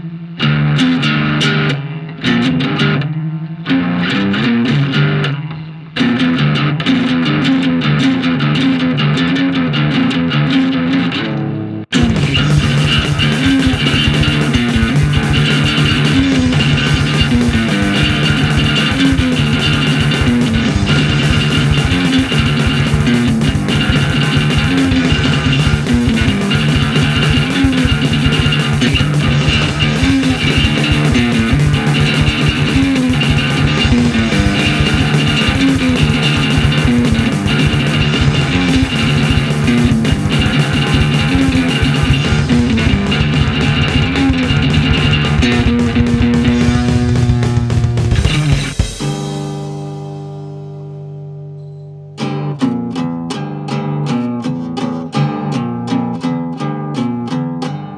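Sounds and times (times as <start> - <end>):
guitar-driven rock music: 0.0 - 57.9.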